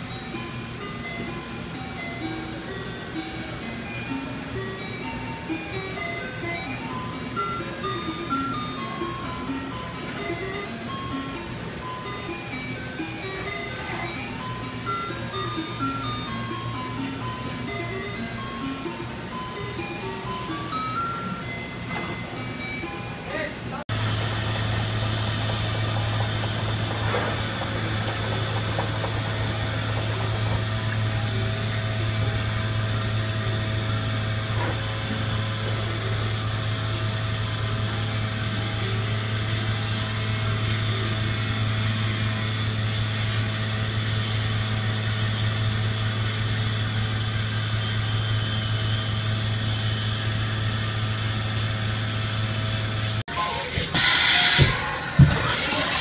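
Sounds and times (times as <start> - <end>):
milling machine humming: 0.0 - 56.0.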